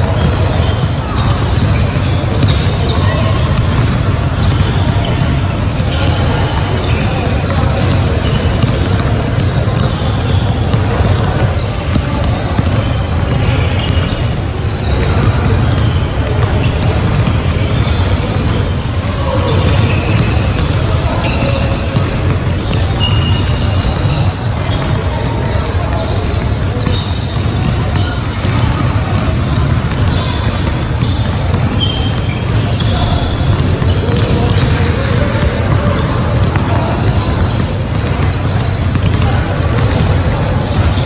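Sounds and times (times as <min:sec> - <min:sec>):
basketballs bouncing on hardwood: 0:00.0 - 0:41.0.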